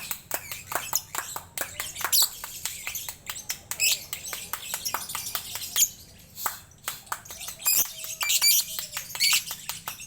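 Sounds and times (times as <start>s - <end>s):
songbird chirping and trilling: 0.0s - 10.0s.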